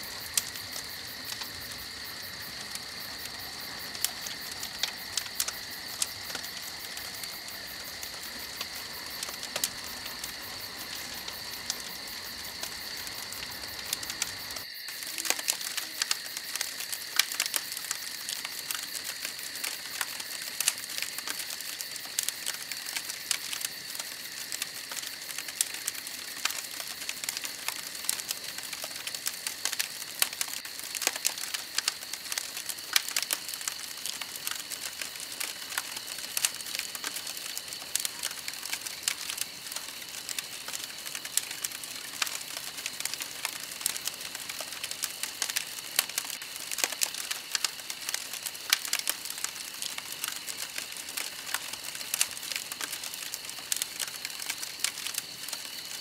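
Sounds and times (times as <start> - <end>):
insect drone: 0.0 - 56.0
wood fire crackling: 0.0 - 56.0.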